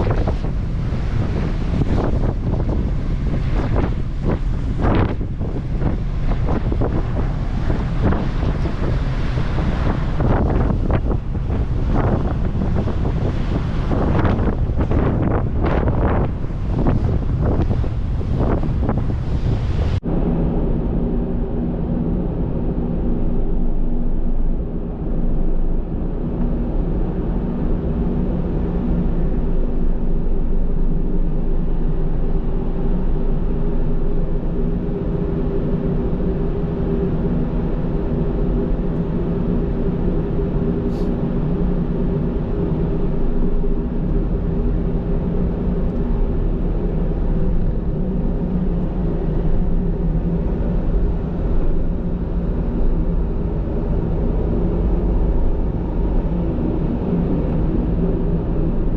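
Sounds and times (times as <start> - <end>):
vehicle engine drone: 0.0 - 58.9.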